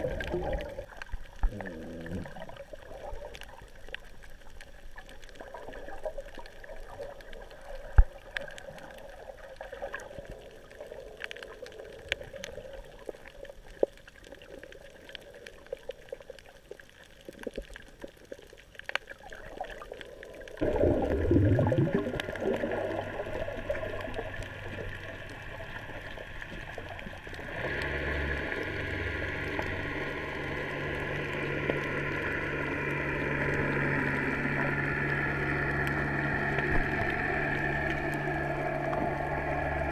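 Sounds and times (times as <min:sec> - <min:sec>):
boat motor heard underwater: 0:00.0 - 0:39.9
underwater clicks: 0:00.0 - 0:39.9.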